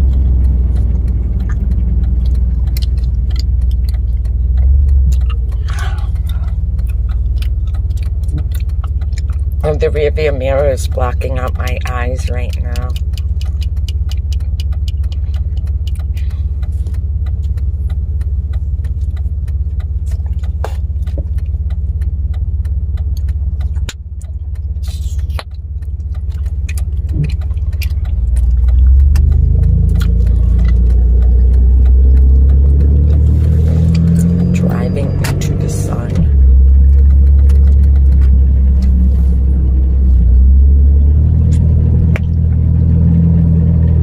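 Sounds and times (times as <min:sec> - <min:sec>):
truck engine rumble: 0:00.0 - 0:44.0.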